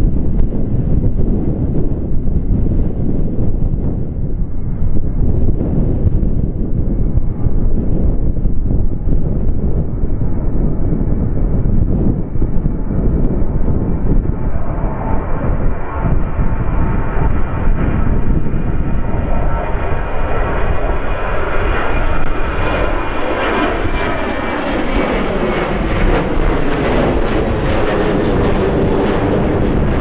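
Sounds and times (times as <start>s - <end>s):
aircraft engines passing: 0.0s - 30.0s
wind buffeting on microphone: 0.0s - 30.0s.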